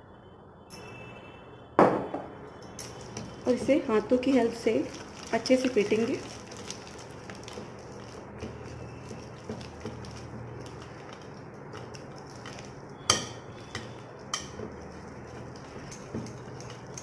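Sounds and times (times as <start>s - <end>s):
batter squelching: 3.0s - 17.0s.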